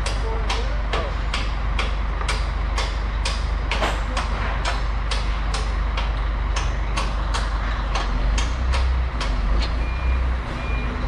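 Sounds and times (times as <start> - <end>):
crane engine rumbling: 0.0 - 11.0.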